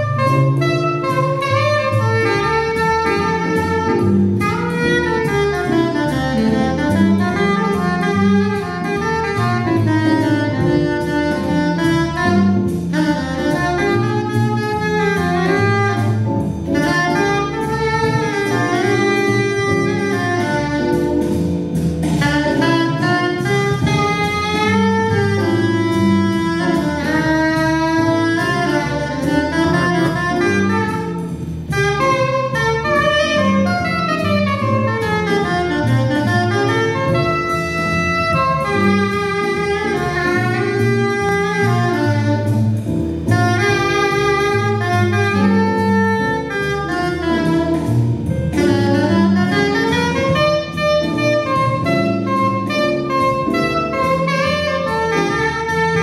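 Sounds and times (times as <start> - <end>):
soprano saxophone jazz melody: 0.0 - 56.0.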